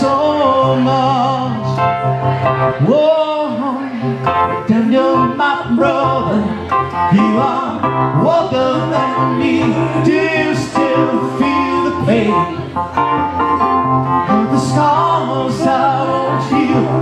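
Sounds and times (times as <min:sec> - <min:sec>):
man singing pop ballad: 0:00.0 - 0:01.8, 0:02.7 - 0:12.8, 0:14.2 - 0:17.0
synthesizer piano chords: 0:00.0 - 0:17.0.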